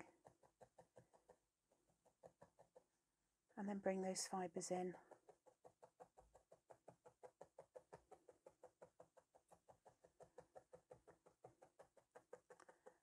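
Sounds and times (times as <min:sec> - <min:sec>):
felting needle tapping: 0:00.0 - 0:03.0, 0:03.6 - 0:13.0.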